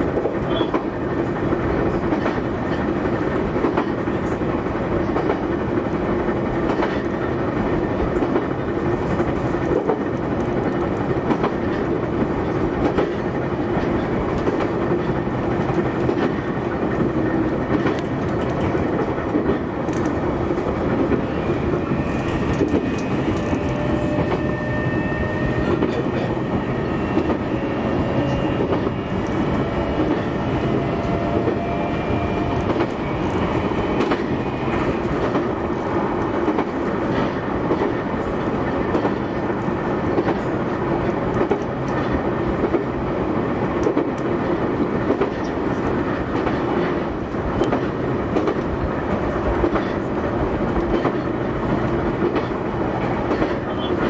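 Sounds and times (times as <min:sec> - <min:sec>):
electric train rolling rumble: 0:00.0 - 0:54.0.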